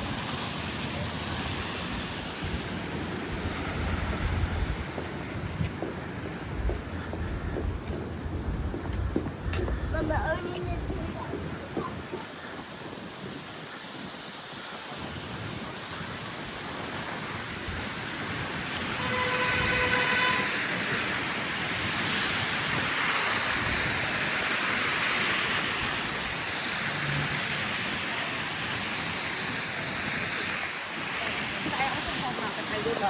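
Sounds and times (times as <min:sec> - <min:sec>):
tyres hissing on slushy road: 0:00.0 - 0:33.0.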